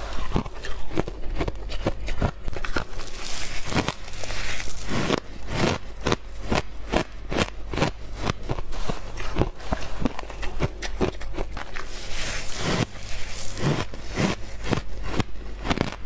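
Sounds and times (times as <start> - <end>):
ice crunching being chewed: 0.0 - 16.0.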